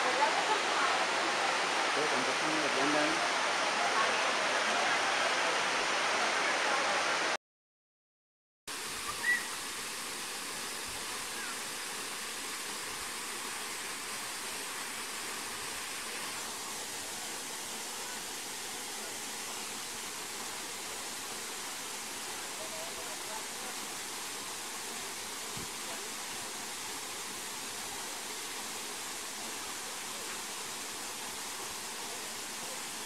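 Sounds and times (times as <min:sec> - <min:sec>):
waterfall rushing: 0:00.0 - 0:07.4, 0:08.7 - 0:33.0.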